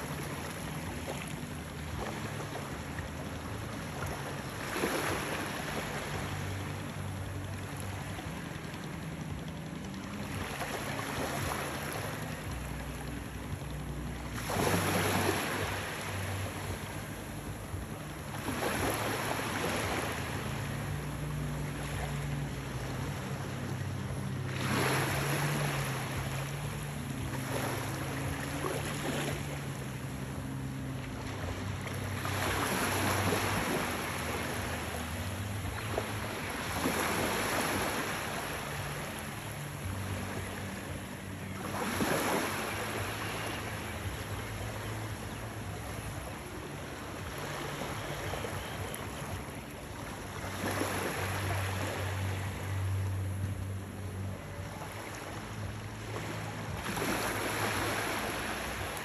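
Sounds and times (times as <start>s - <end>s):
low hum: 0.0s - 59.0s
small waves washing ashore: 0.0s - 59.0s.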